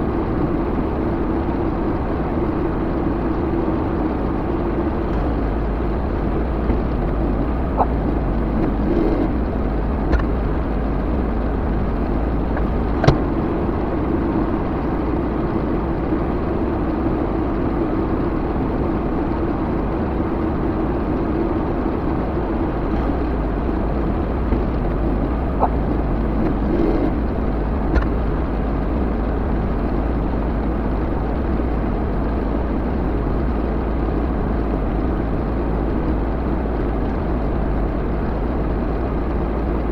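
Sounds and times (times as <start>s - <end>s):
backhoe engine droning: 0.0s - 39.9s.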